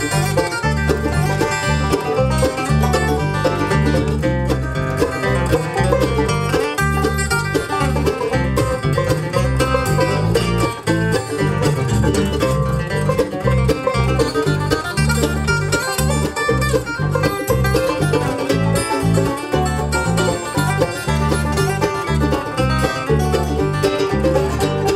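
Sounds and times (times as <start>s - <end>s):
acoustic guitar: 0.0s - 24.9s
banjo: 0.0s - 24.9s
bass notes: 0.0s - 24.9s
mandolin: 0.0s - 24.9s.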